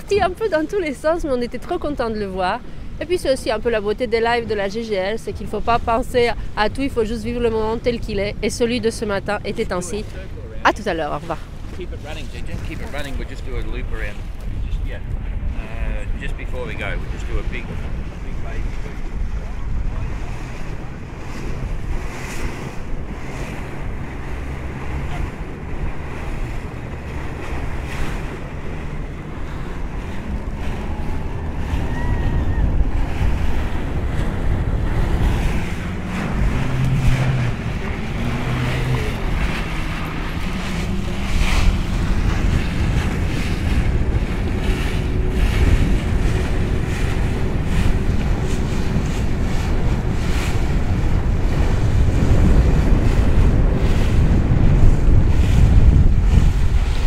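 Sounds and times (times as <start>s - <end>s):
boat engine running: 0.0s - 57.0s
rushing sea water: 0.0s - 57.0s
wind buffeting microphone: 0.0s - 57.0s.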